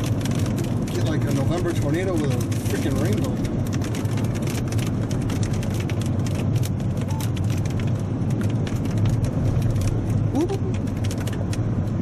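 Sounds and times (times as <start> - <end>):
hail hitting a car: 0.0 - 11.5
moving car rumble: 0.0 - 12.0.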